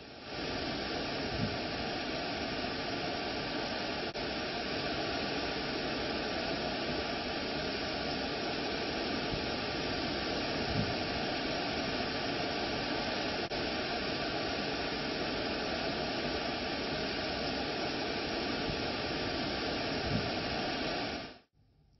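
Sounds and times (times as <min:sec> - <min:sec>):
waterfall rushing: 0:00.2 - 0:21.3.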